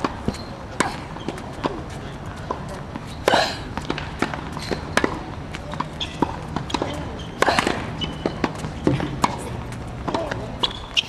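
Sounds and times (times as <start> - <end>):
racket hitting tennis ball: 0.0 - 11.0
tennis ball bouncing on court: 0.0 - 11.0.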